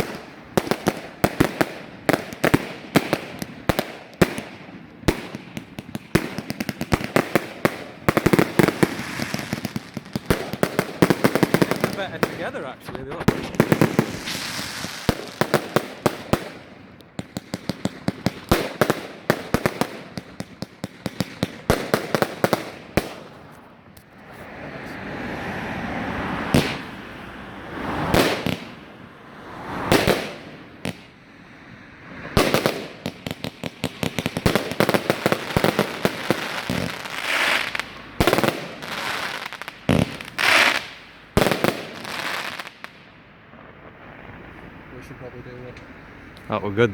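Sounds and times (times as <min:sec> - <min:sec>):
fireworks shot reports and bangs: 0:00.0 - 0:24.6, 0:26.1 - 0:27.0, 0:27.8 - 0:31.2, 0:32.0 - 0:45.8
fireworks crackle and hiss: 0:00.0 - 0:25.0, 0:27.7 - 0:45.8.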